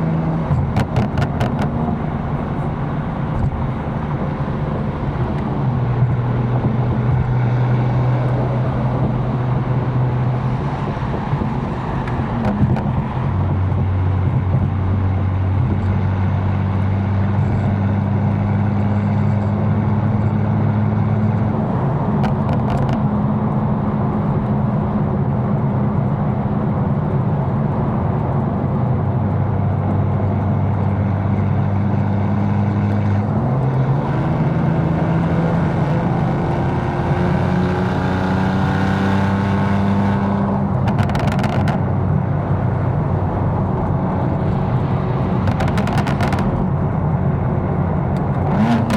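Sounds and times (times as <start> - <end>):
car engine cruising: 0.0 - 48.9
road noise: 0.0 - 48.9.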